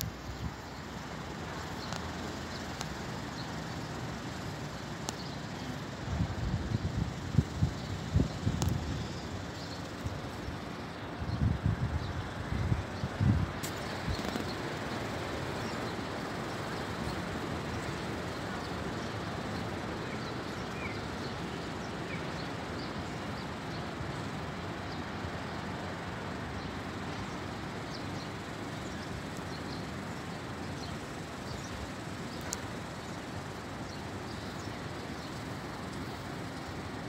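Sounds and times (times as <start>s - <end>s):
outdoor background noise: 0.0s - 37.0s.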